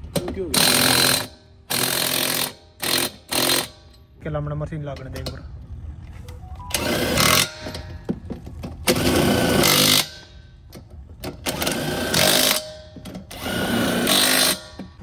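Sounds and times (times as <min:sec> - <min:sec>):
impact wrench on wheel nuts: 0:00.0 - 0:04.1, 0:06.8 - 0:15.0.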